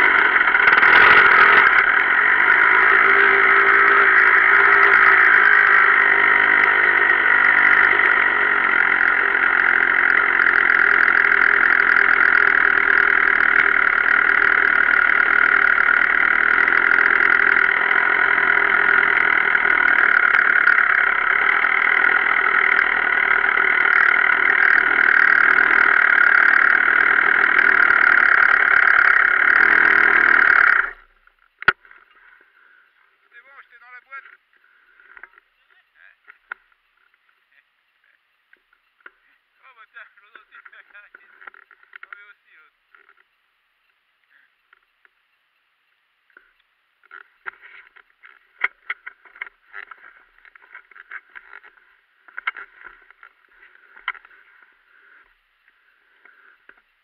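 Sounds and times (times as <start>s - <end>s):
motorcycle engine idling: 0.0s - 33.5s, 34.2s - 42.1s, 46.3s - 57.0s.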